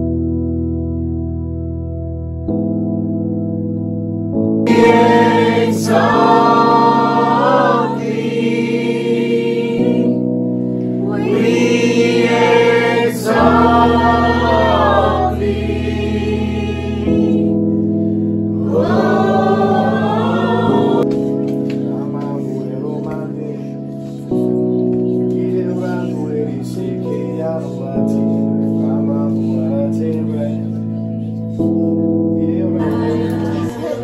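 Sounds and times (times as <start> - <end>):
sustained chords: 0.0 - 34.0.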